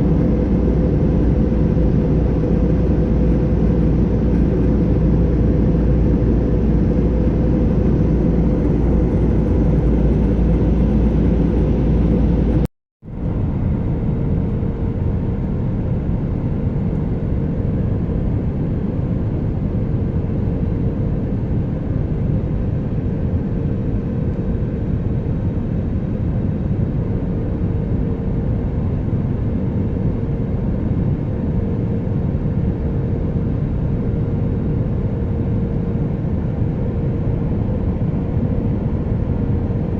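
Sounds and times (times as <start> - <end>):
airliner engine and airflow rumble: 0.0 - 39.9.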